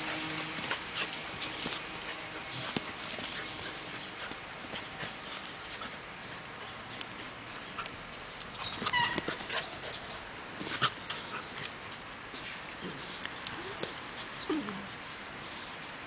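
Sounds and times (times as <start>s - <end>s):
puppies scuffling: 0.0s - 15.7s.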